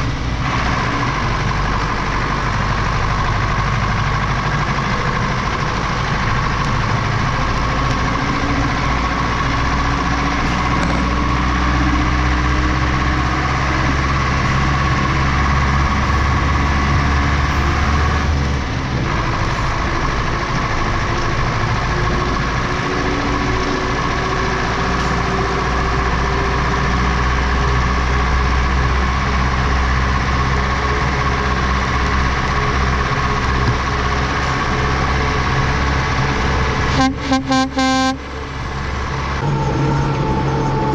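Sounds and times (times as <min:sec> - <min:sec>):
tractor engine running under load: 0:00.0 - 0:40.9.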